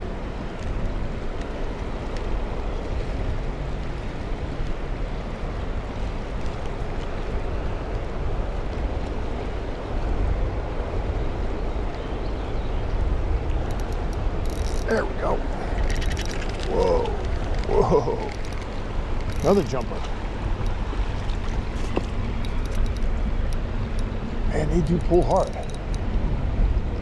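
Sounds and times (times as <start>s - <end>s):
flowing river water: 0.0s - 27.0s
wind rumbling on microphone: 0.0s - 27.0s.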